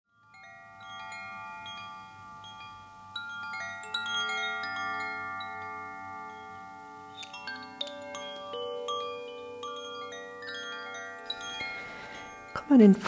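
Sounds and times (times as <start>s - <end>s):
metal chimes ringing: 0.1s - 13.0s.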